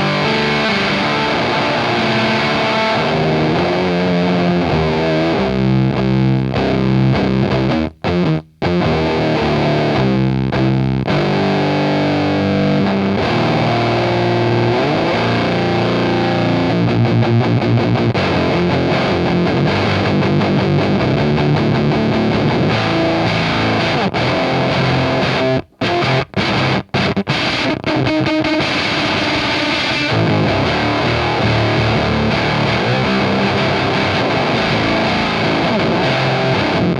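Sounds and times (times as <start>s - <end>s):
fuzzed electric guitar chords: 0.0s - 36.9s.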